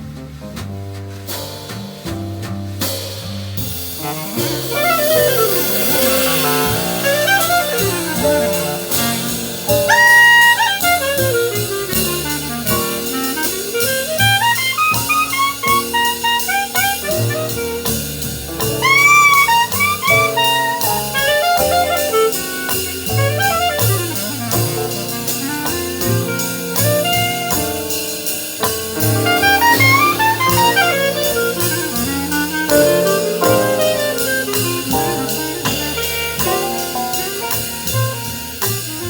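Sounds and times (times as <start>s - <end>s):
bass: 0.0s - 39.0s
drum kit: 0.0s - 39.0s.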